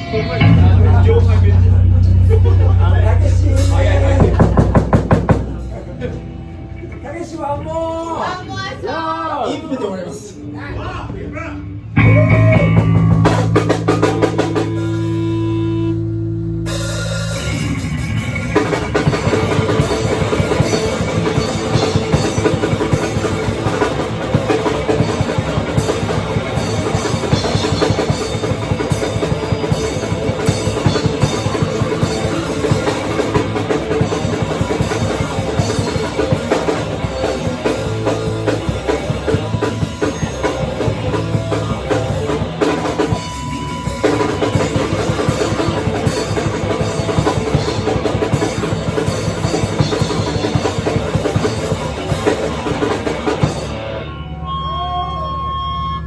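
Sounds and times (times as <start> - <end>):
live rock band playing: 0.0 - 7.7, 11.6 - 56.0
drum kit pounding: 0.1 - 6.6, 12.0 - 16.0, 16.6 - 54.0.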